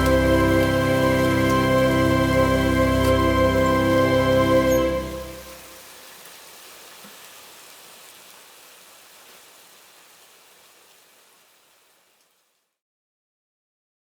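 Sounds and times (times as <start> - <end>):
rain falling: 0.0 - 12.6.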